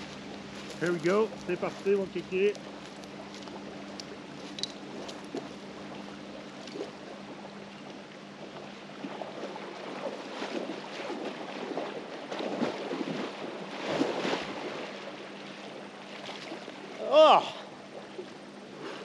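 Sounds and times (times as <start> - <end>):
water splashing from wading: 0.0 - 19.0.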